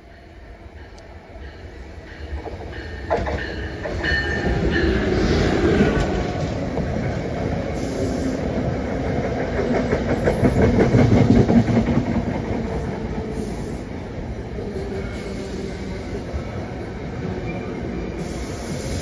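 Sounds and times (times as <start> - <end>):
rhythmic clicking of rail joints: 0.0 - 19.0
train wheels rumbling on rail: 0.0 - 19.0.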